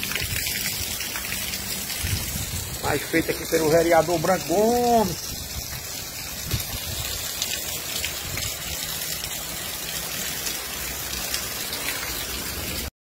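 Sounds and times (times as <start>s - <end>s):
heavy rain on pavement: 0.0s - 12.9s.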